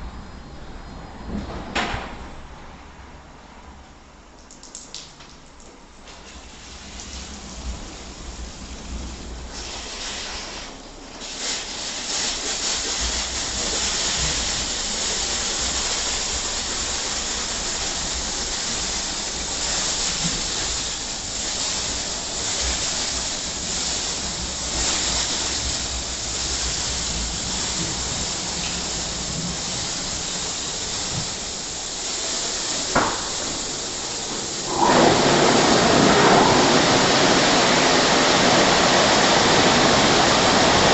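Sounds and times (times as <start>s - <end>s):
water spray hissing: 6.1s - 40.9s
wet rotating brushes on car: 6.2s - 40.9s.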